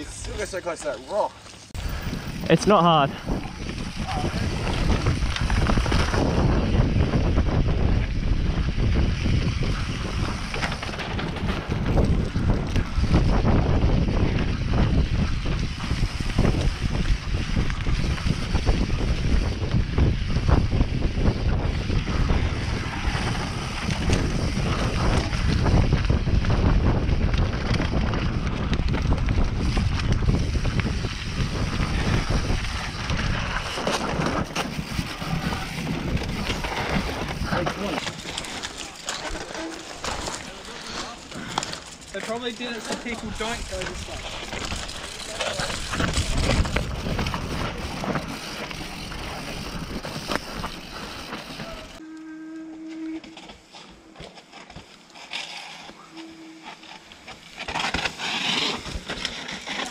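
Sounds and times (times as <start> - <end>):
bike rattling over bumps: 0.0 - 52.0, 53.3 - 59.9
tyres rolling on dirt: 0.0 - 52.0, 53.3 - 59.9
wind rushing over microphone: 1.8 - 41.8, 42.9 - 52.0.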